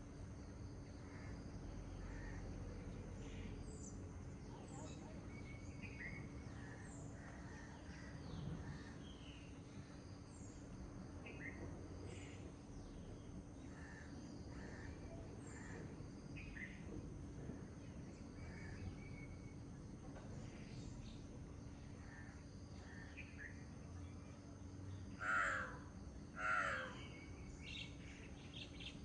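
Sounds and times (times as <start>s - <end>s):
faint hum: 0.0s - 29.0s
songbirds chirping: 0.0s - 29.0s.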